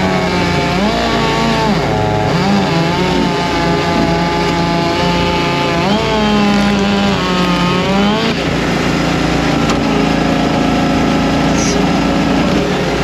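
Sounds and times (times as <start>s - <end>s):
small gasoline engines running: 0.0s - 13.0s.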